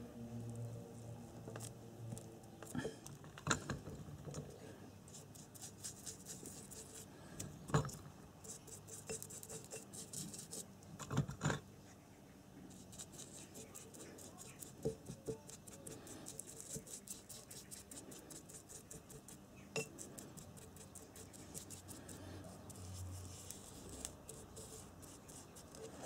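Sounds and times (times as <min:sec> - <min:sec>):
brush scraping glue on metal: 0:01.0 - 0:11.4, 0:12.7 - 0:26.0.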